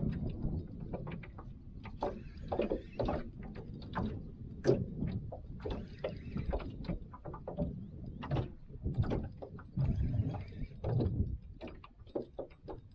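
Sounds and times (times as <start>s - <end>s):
waves slapping boat hull: 0.0s - 12.9s
wind rumble on microphone: 0.0s - 12.9s.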